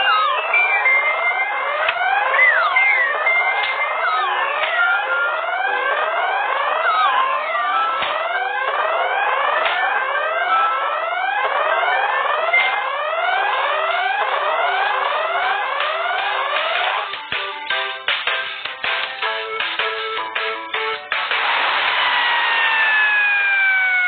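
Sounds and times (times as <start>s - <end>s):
electronic siren whoops: 0.0s - 17.2s, 21.4s - 24.0s.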